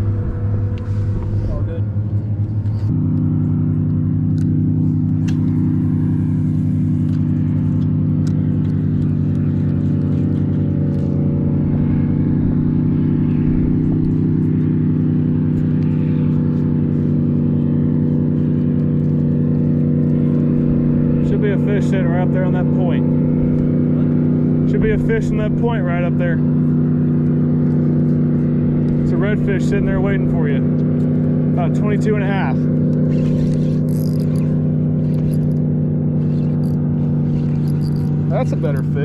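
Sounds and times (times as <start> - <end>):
outboard motor running: 0.0 - 39.0.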